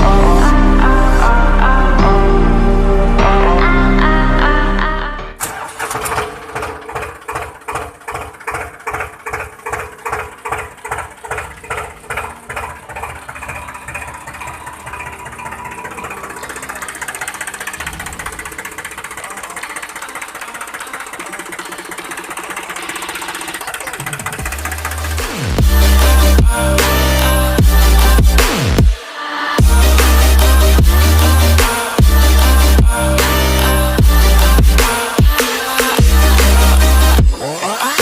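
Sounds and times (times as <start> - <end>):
small engine chugging: 5.4 - 38.0.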